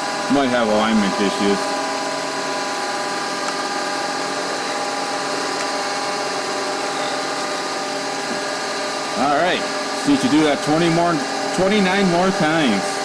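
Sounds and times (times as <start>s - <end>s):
milling machine motor humming: 0.0s - 13.0s.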